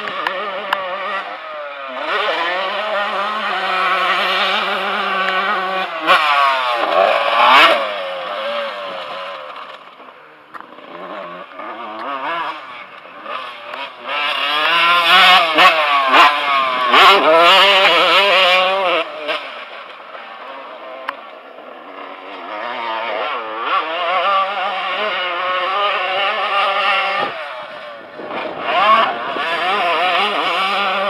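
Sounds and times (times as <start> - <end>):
motocross bike engine revving: 0.0 - 31.0.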